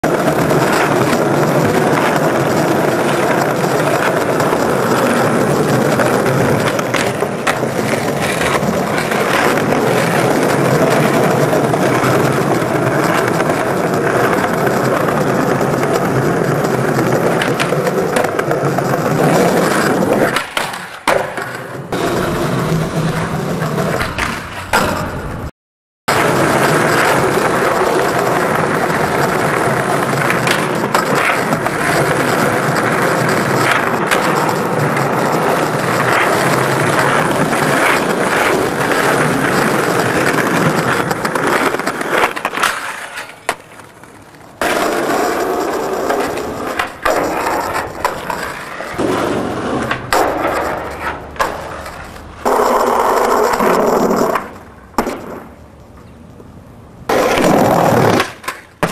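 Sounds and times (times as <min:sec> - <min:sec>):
skateboard popping and landing: 0:00.0 - 0:25.5, 0:26.1 - 0:56.2, 0:57.0 - 0:58.9
skateboard wheels rumbling on concrete: 0:00.0 - 0:25.5, 0:26.1 - 0:58.9.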